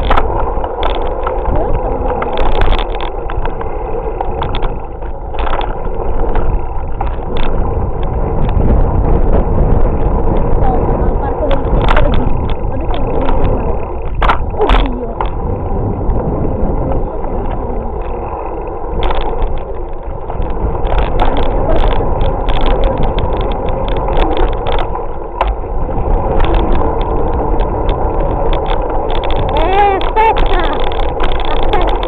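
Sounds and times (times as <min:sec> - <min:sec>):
sharp clicks and knocks: 0:00.0 - 0:10.6, 0:11.4 - 0:15.4, 0:17.4 - 0:32.0
bicycle rattling over bumps: 0:00.0 - 0:32.0
wind rumbling on microphone: 0:00.0 - 0:32.0.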